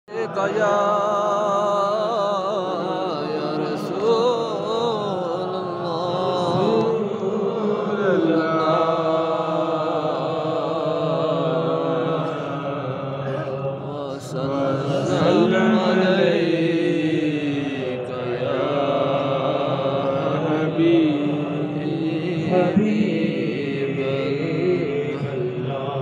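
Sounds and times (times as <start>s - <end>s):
man chanting into microphone: 0.1s - 26.0s.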